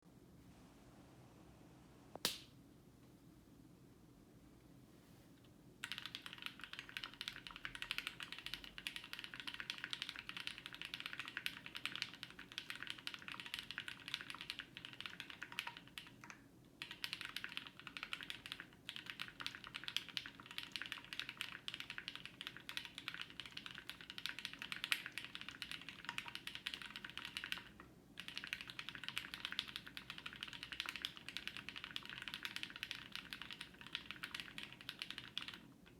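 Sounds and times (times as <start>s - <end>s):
mechanical keyboard typing: 5.8s - 35.9s.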